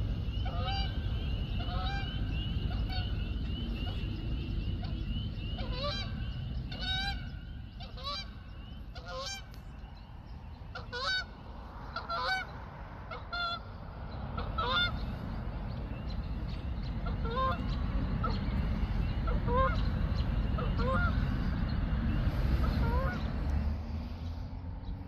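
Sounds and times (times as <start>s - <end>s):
geese honking: 0.0s - 9.6s, 10.7s - 12.5s, 13.1s - 23.5s
low rumble: 0.0s - 25.0s.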